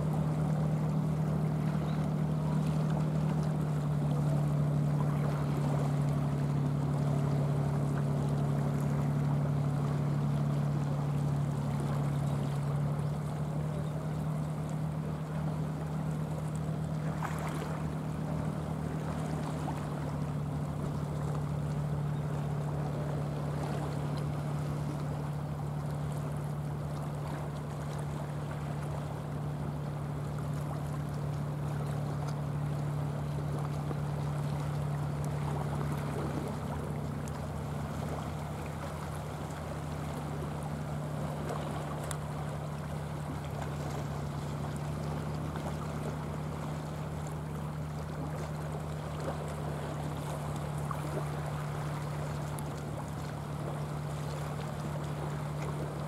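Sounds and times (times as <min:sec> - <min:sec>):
low engine hum: 0:00.0 - 0:56.0
surf: 0:00.0 - 0:56.0
wind: 0:00.0 - 0:56.0.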